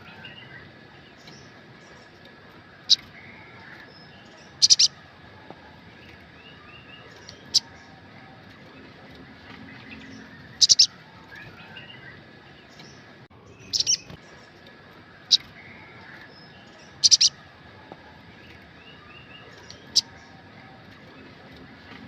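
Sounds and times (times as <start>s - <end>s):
soft bird twittering: 0.0s - 22.0s.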